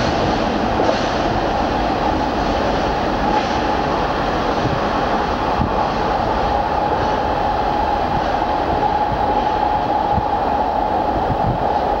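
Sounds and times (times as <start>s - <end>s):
freight train rumbling in tunnel: 0.0s - 12.0s.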